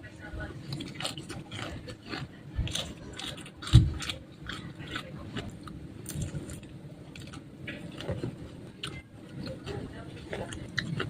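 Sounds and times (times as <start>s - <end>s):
crunchy chewing and biting: 0.5s - 11.0s.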